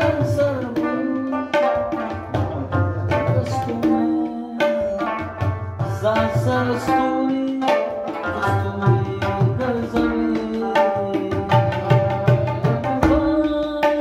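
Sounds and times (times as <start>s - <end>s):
plucked lute melody: 0.0s - 14.0s
tabla drums: 0.0s - 14.0s.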